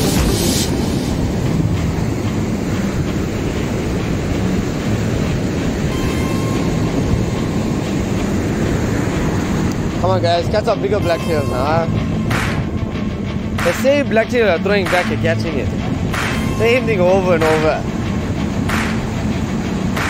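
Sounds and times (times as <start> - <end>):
breaking surf: 0.0 - 20.0
wind buffeting microphone: 0.0 - 20.0.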